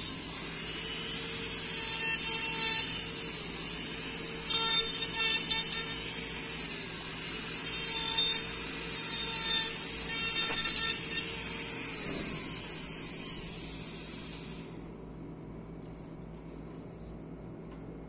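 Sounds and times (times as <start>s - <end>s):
drill grinding acrylic: 0.0s - 14.8s
dental handpiece whining: 0.0s - 14.9s.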